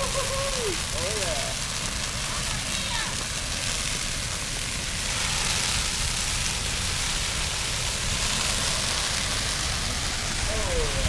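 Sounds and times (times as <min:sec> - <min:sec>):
hiss of flames: 0:00.0 - 0:11.0.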